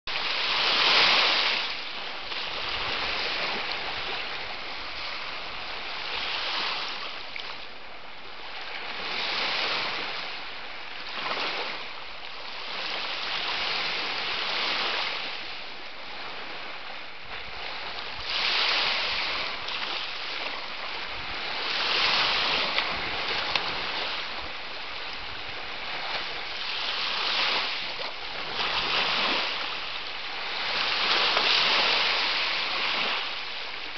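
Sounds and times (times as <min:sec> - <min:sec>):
sea waves washing in: 0:00.1 - 0:33.9.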